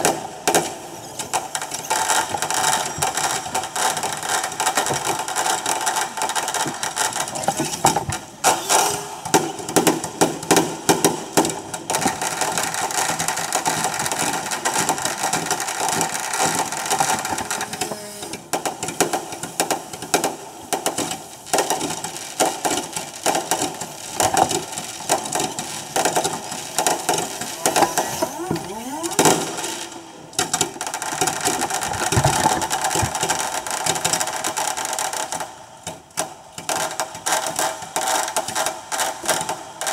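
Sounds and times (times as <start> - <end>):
reversed fireworks rattle: 0.0 - 39.9.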